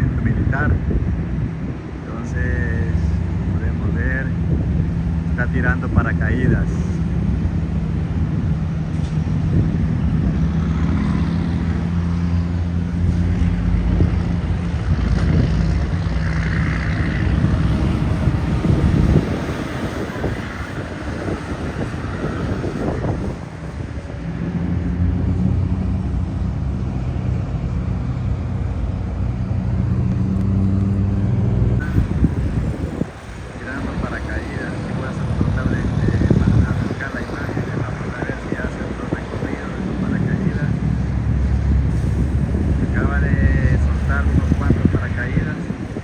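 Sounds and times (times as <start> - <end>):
engine hum: 0.0 - 46.0
road traffic noise: 0.0 - 46.0.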